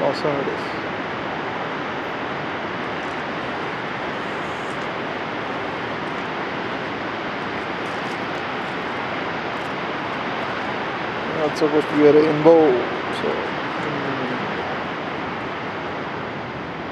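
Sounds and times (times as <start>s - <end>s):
white water rushing: 0.0s - 16.9s.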